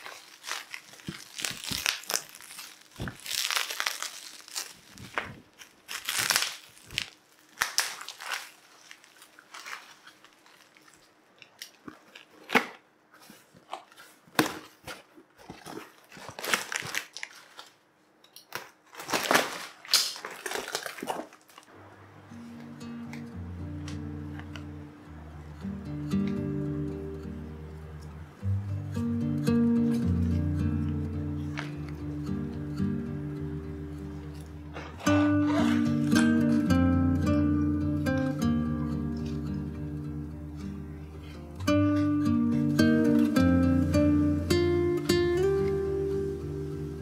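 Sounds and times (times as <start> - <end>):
plant crinkling and rustling: 0.0 - 28.6, 29.8 - 41.8.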